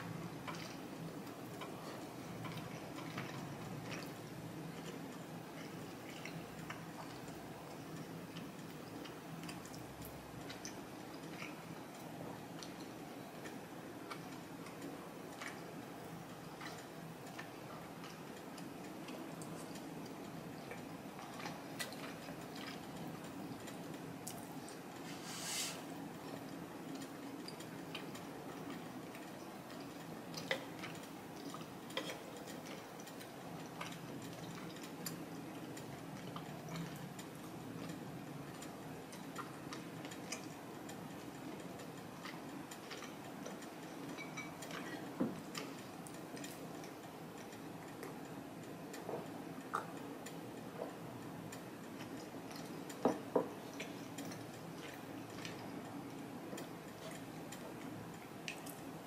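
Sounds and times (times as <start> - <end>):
close wet chewing: 0.4 - 25.0, 25.8 - 59.0.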